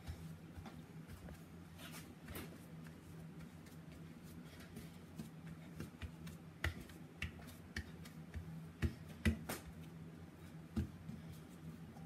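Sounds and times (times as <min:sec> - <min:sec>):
hands patting dough on wood: 0:00.0 - 0:12.0.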